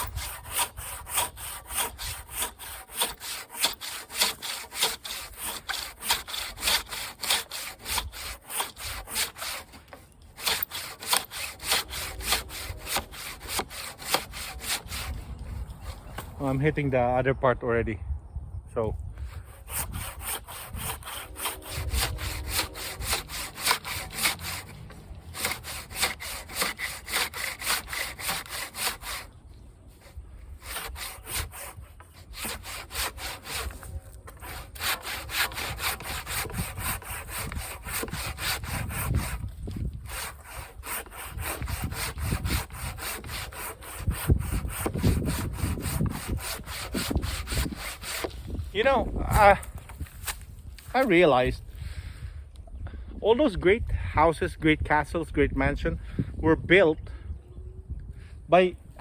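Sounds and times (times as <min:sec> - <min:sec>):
hand saw cutting log: 0:00.0 - 0:16.7, 0:19.2 - 0:51.3.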